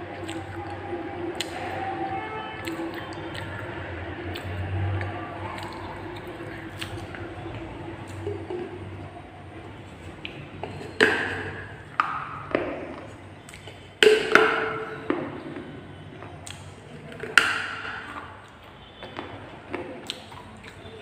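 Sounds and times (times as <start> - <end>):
teeth cracking clay pot: 0.1 - 2.0, 2.6 - 8.9, 10.2 - 21.0.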